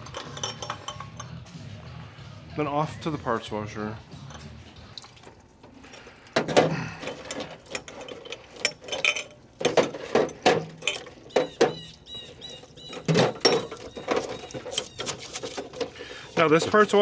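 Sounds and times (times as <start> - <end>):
metal parts clanking: 0.0 - 1.6, 4.2 - 17.0.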